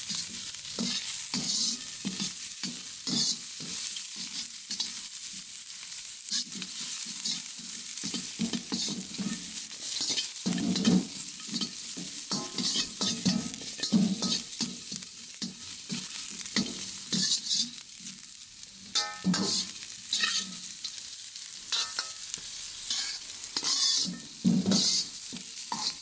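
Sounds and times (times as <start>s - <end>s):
oil sizzling: 0.0s - 26.0s
metal ladle scraping wok: 0.1s - 5.0s, 6.3s - 17.8s, 18.9s - 26.0s.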